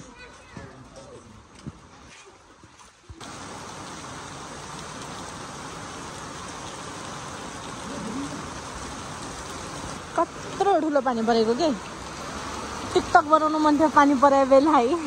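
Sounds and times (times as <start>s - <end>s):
heavy rain on stone: 0.1s - 15.0s.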